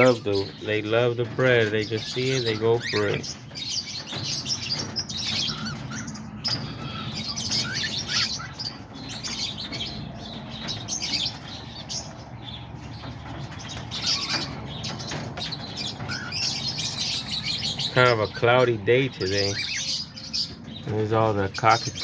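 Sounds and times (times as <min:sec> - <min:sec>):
cockatiels chirping and calling: 0:00.0 - 0:22.0.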